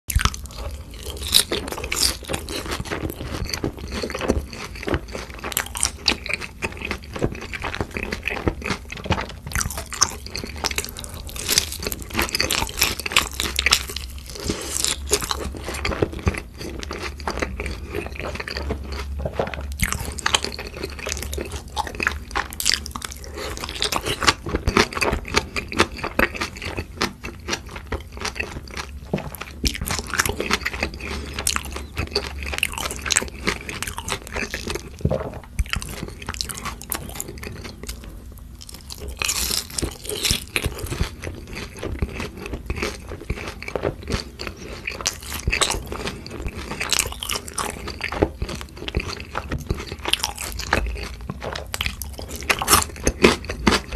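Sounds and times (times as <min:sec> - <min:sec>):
crisp crunches of fried chicken: 0:00.1 - 0:53.9
wet chewing: 0:00.1 - 0:53.9.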